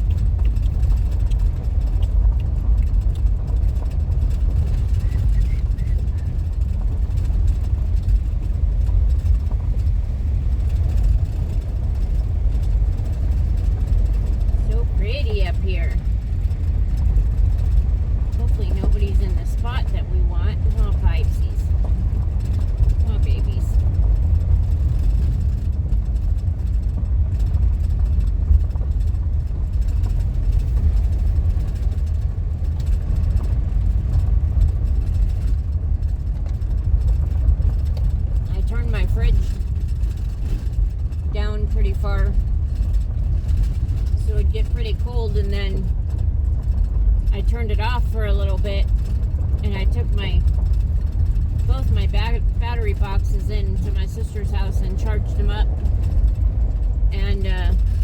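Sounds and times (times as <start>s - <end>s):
road and engine rumble in car cabin: 0.0s - 58.0s.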